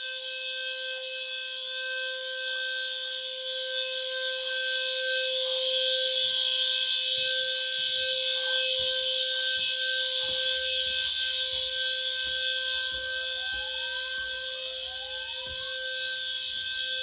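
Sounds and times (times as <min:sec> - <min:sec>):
fire alarms sounding: 0:00.0 - 0:17.0.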